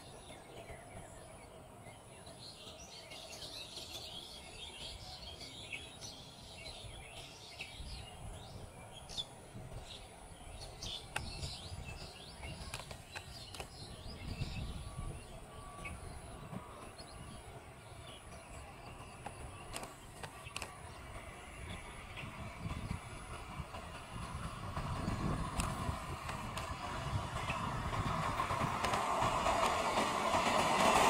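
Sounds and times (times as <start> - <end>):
birds chirping: 0.0 - 31.0
distant train rumble: 0.0 - 31.0.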